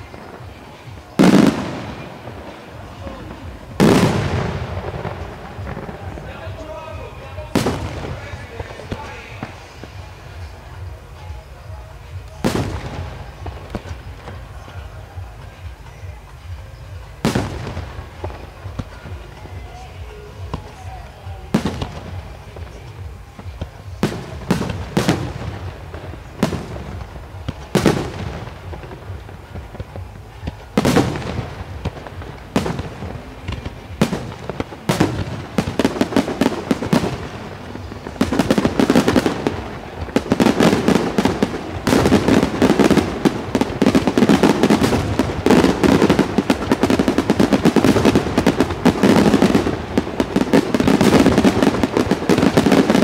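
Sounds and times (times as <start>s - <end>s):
fireworks bursting with bangs: 0.0s - 53.0s.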